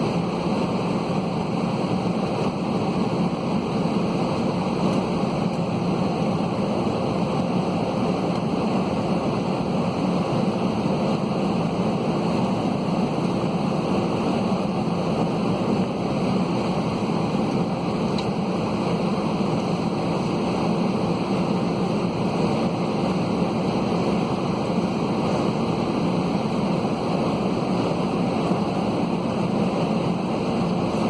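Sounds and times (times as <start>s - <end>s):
airflow over airliner fuselage: 0.0s - 31.0s
jet engines droning: 0.0s - 31.0s.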